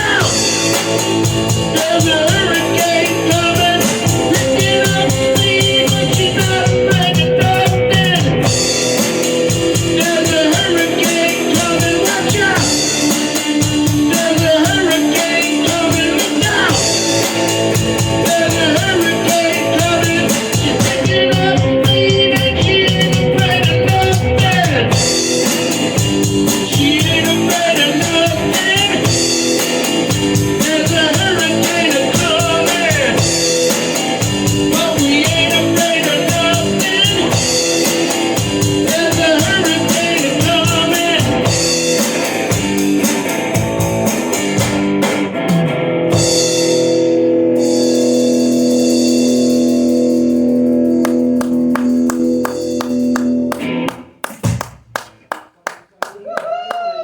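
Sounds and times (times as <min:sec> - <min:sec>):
rock song with drums and guitar: 0:00.0 - 0:55.1.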